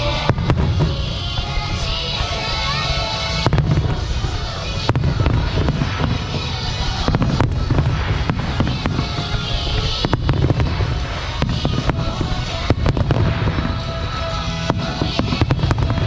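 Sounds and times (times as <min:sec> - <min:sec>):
fireworks bangs: 0:00.0 - 0:16.0
low fireworks rumble: 0:00.0 - 0:16.0
music playing: 0:00.0 - 0:16.0.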